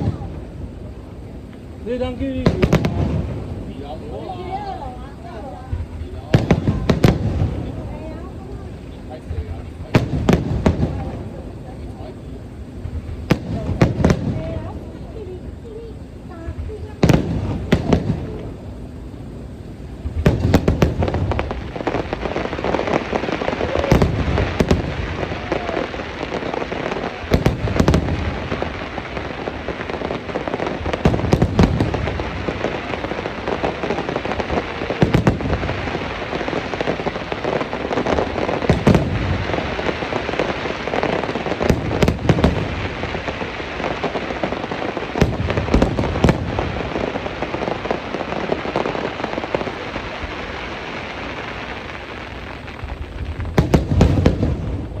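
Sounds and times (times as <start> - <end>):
fireworks crackling and hissing: 0.0 - 55.0.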